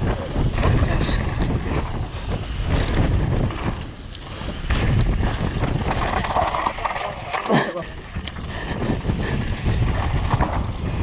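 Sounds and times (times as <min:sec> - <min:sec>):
mountain bike rattling and knocking: 0:00.0 - 0:11.0
wind buffeting microphone: 0:00.0 - 0:11.0.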